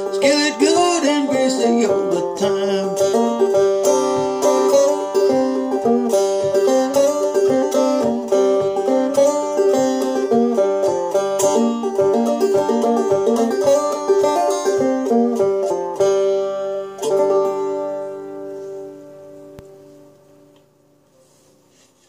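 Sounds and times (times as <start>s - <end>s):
banjo strums: 0.0s - 20.8s
banjo picking: 0.0s - 21.8s.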